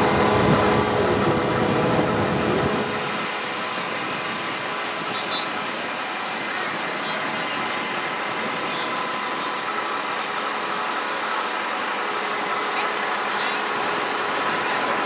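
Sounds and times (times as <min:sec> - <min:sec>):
outboard motor running fast: 0:00.0 - 0:15.0.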